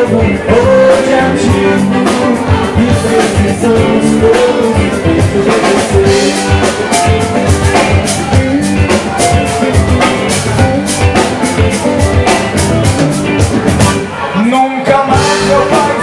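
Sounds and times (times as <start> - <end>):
drum kit with cymbal strokes: 0.0 - 14.1
live band instrumental: 0.0 - 16.0.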